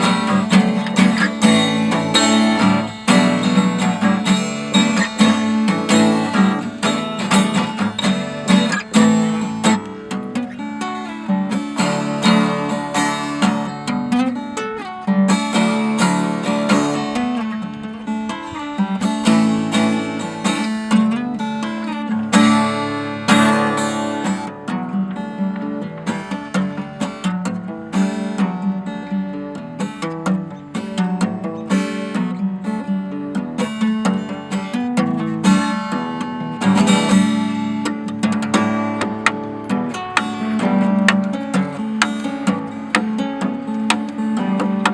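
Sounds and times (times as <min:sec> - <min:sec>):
fingerstyle acoustic guitar: 0:00.0 - 0:44.9.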